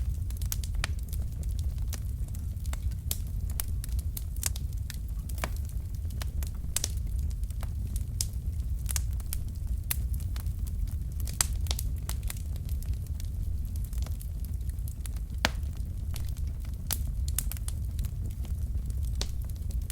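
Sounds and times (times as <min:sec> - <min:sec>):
fire rumbling: 0:00.0 - 0:19.9
logs crackling and popping: 0:00.0 - 0:19.9.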